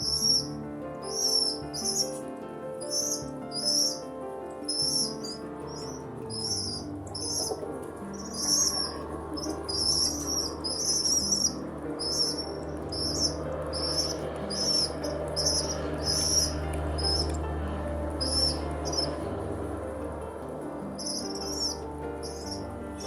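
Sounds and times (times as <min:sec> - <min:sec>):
small birds chirping: 0:00.0 - 0:19.8, 0:20.4 - 0:23.0
soft background music: 0:00.0 - 0:23.0.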